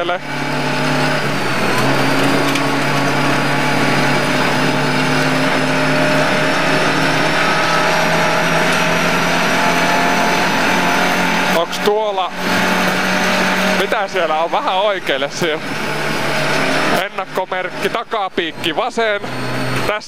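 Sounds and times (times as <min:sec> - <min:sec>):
tyres crunching on snow: 0:00.0 - 0:19.2
car engine at high revs: 0:00.0 - 0:20.0.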